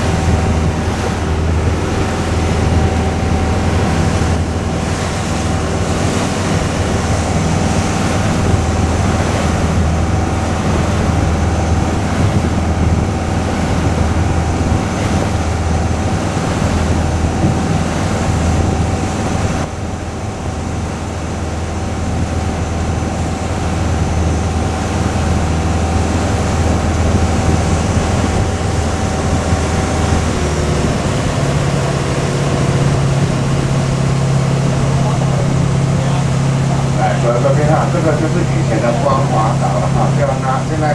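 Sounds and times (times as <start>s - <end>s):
ferry engine running: 0.0s - 40.9s
steady whine: 0.0s - 40.9s
water rushing along hull: 0.0s - 40.9s
wind on microphone: 0.0s - 40.9s.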